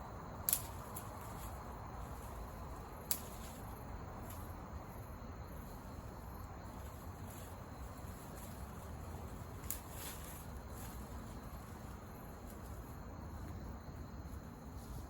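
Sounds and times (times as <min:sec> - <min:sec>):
wood campfire crackling: 0:00.0 - 0:15.0.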